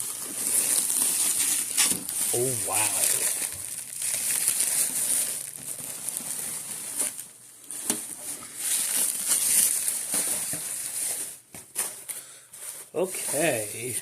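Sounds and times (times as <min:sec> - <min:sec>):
packaging wrapper crinkling: 0:00.0 - 0:14.0.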